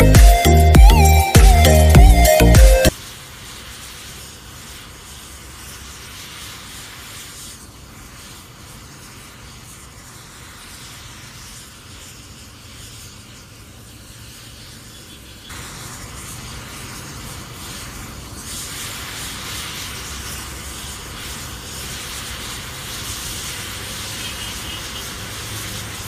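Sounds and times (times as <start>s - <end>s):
burning matches hissing: 0.0s - 26.0s.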